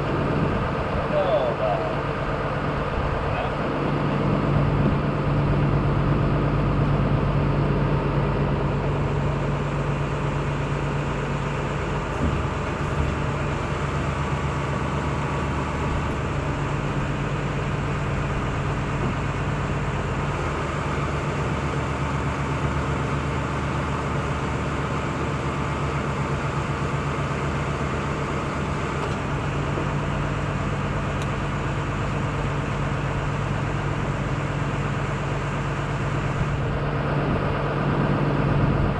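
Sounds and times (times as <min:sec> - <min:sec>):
machinery humming: 0:00.0 - 0:38.9.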